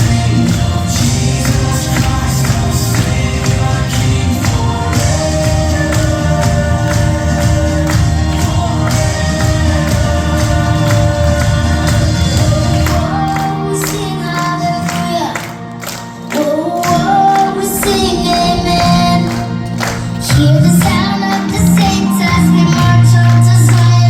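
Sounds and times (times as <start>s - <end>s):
worship song with full band: 0.0s - 24.0s.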